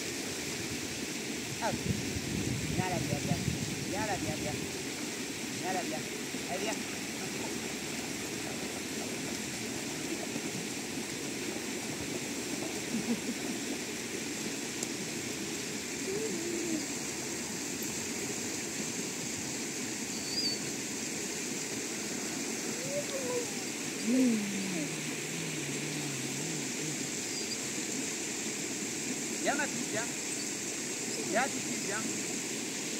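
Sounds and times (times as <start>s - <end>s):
river water splashing: 0.0s - 32.9s.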